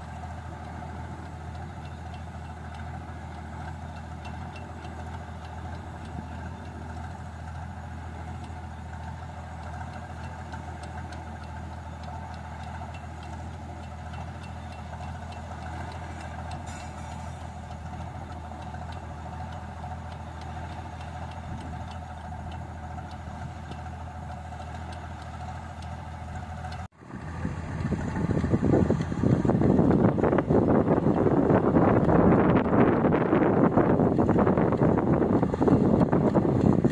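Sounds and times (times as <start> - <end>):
grain unloading through auger: 0.0 - 33.0
combine harvester engine running: 0.0 - 36.9.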